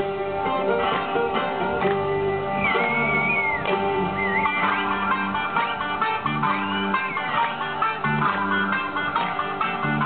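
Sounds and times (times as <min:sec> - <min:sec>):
plucked string dance music: 0:00.0 - 0:10.0
sustained bass notes: 0:00.0 - 0:10.0.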